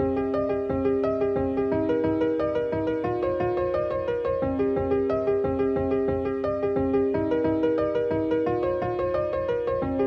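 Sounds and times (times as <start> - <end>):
keyboard melody over chords: 0.0 - 10.0.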